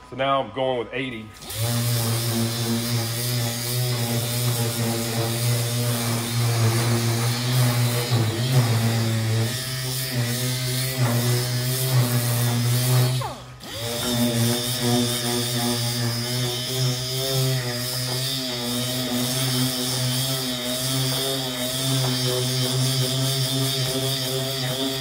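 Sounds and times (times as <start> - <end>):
orbital sander humming: 1.4 - 25.0.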